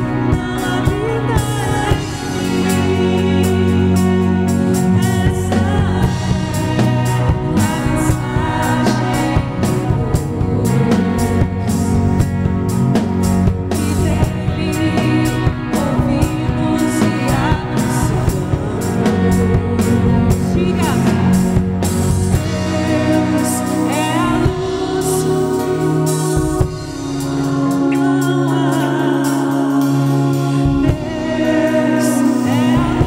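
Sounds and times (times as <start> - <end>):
women singing: 0.0 - 12.4, 13.5 - 33.0
worship band playing: 0.0 - 33.0.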